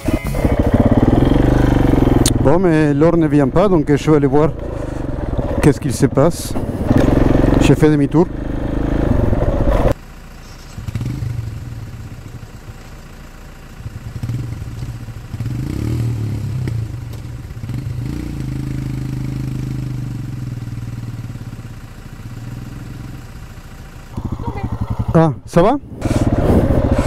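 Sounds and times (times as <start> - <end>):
motorcycle engine revving: 0.0 - 10.0, 10.8 - 12.2, 13.8 - 27.0.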